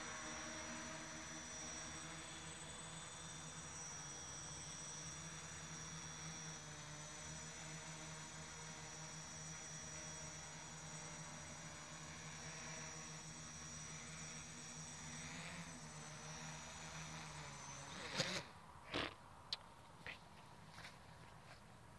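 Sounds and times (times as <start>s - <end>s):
quadcopter motors buzzing: 0.0s - 19.2s.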